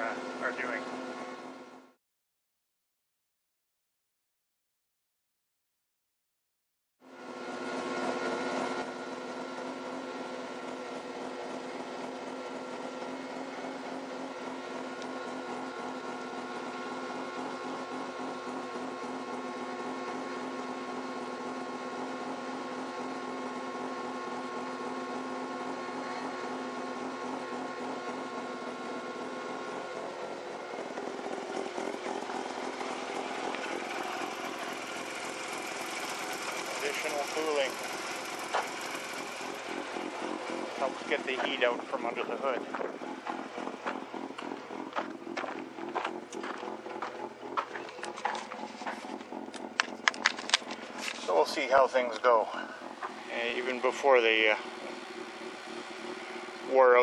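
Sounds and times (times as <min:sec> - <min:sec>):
engine whine: 0:00.0 - 0:02.0, 0:07.0 - 0:57.0
rotary engine idling: 0:00.0 - 0:02.0, 0:07.1 - 0:57.0.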